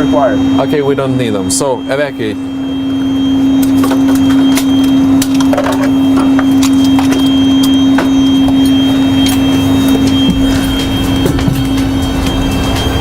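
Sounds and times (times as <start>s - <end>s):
loud steady humming tone: 0.0s - 13.0s.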